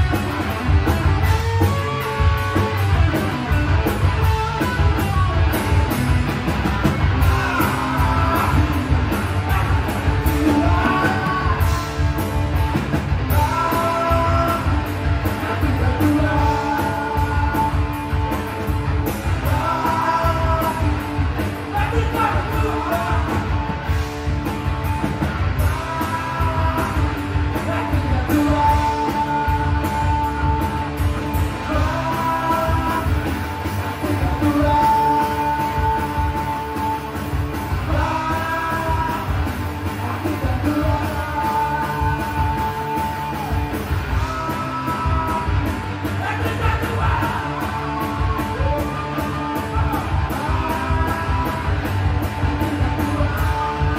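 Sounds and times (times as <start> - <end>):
live rock band playing: 0.0 - 53.9
man singing: 1.1 - 6.0, 7.1 - 12.3, 13.2 - 23.8, 25.2 - 53.9.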